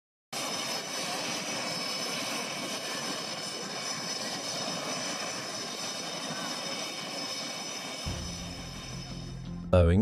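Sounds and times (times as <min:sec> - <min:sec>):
jet engine whine and rush: 0:00.4 - 0:09.6.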